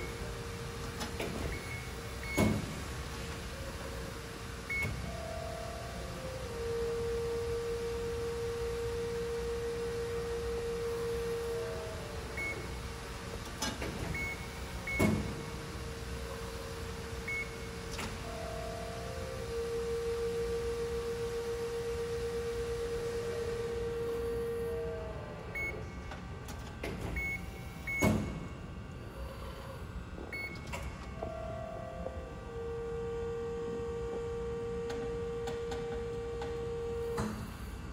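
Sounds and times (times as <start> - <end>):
low machine hum: 0.0 - 37.9.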